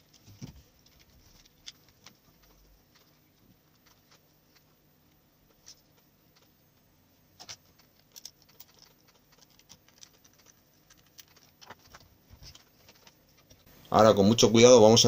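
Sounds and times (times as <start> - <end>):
faint clicks and taps: 0.0 - 13.7.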